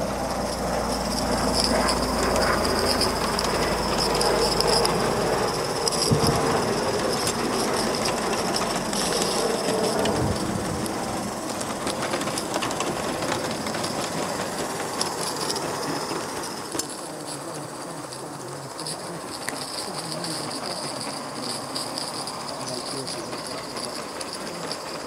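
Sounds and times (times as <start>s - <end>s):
model train wheels rattling: 0.0s - 25.0s
steam hissing: 0.0s - 25.0s.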